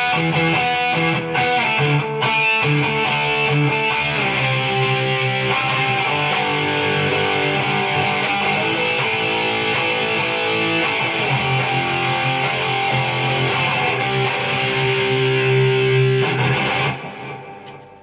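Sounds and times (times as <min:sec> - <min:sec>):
guitar picked notes: 0:00.0 - 0:18.0.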